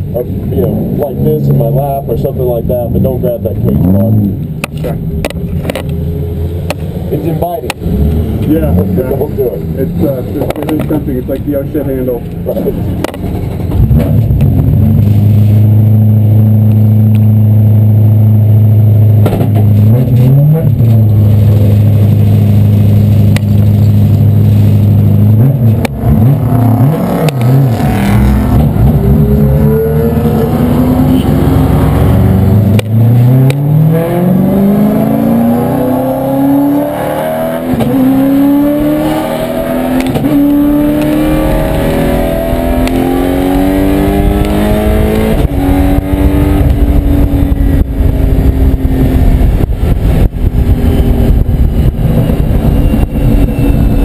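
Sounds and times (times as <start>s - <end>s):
car engine revving and accelerating: 0.0s - 54.0s.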